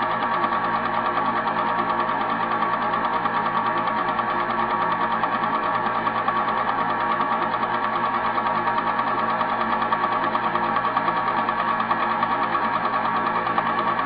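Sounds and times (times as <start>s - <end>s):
film projector clattering: 0.0s - 14.0s.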